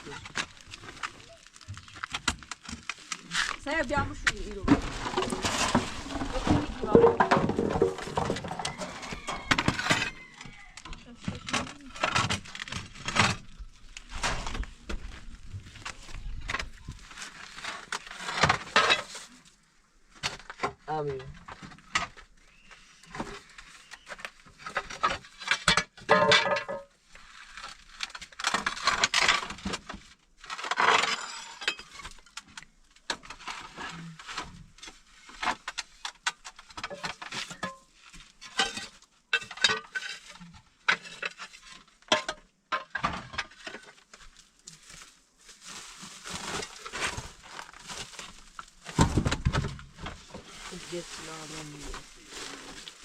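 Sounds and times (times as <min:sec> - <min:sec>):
debris clattering and crunching: 0:00.0 - 0:53.0.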